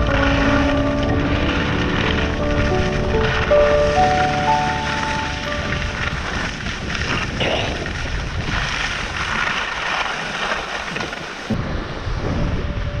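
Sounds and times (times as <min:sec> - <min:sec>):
skis hissing over snow: 0:00.0 - 0:11.6
wind buffeting microphone: 0:00.0 - 0:13.0.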